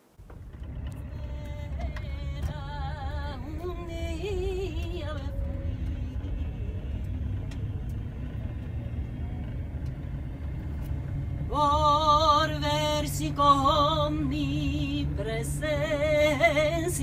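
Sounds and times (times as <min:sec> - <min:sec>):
road rumble inside car: 0:00.0 - 0:17.0.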